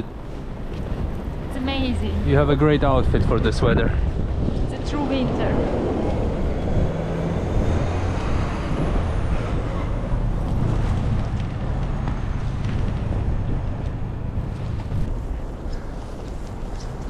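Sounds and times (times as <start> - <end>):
traffic noise: 0.0 - 17.0
vehicle engine rumbling: 0.0 - 17.0.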